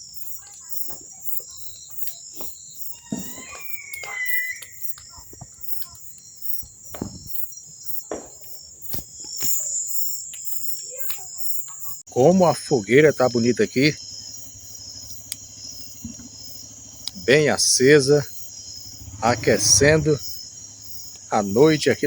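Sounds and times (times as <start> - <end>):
crickets trilling: 0.0 - 22.0.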